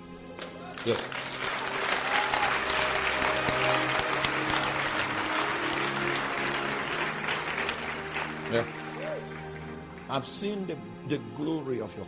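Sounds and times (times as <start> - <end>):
soft background music: 0.0 - 12.0
congregation applauding: 0.3 - 11.0.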